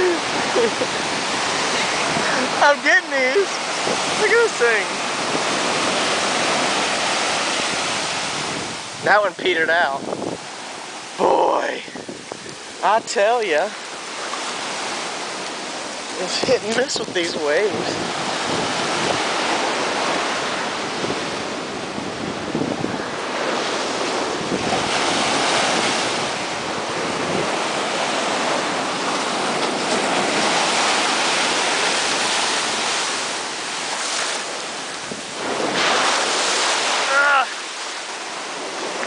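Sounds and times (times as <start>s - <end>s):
wind buffeting microphone: 0.0s - 37.1s
ocean surf washing on beach: 0.0s - 39.0s.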